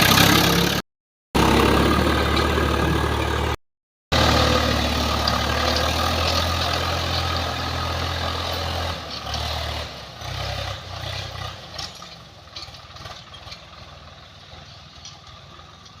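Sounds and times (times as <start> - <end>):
tractor diesel engine running: 0.0 - 0.8, 1.4 - 16.0.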